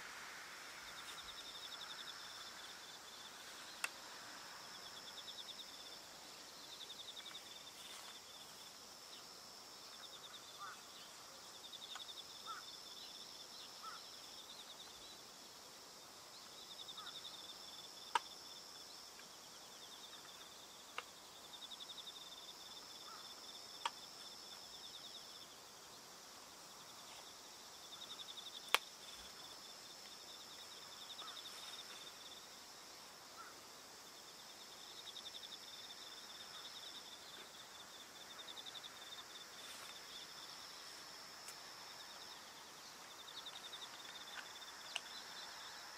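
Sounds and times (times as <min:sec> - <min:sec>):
insects chirping in pulses: 0:00.0 - 0:45.9
steady high insect trill: 0:00.0 - 0:45.9.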